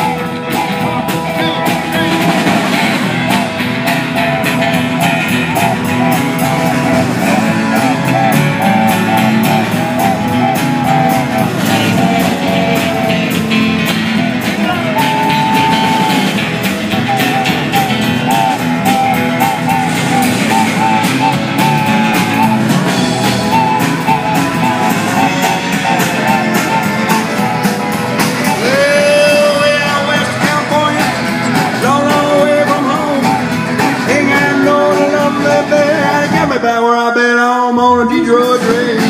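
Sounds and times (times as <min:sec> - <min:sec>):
wooden train whistle toots: 0:00.0 - 0:36.2
rock band playing: 0:00.0 - 0:36.8, 0:38.2 - 0:39.0.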